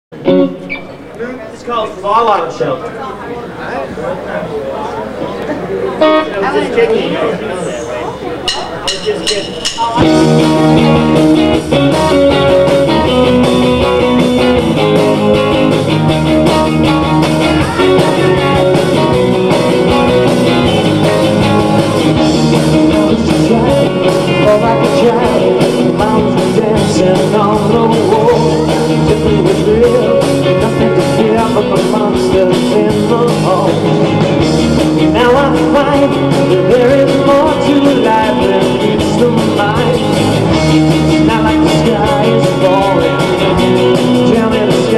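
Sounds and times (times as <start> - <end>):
electric guitars: 0.2 - 1.2, 5.1 - 8.4, 9.8 - 44.9
drum kit: 8.5 - 44.9.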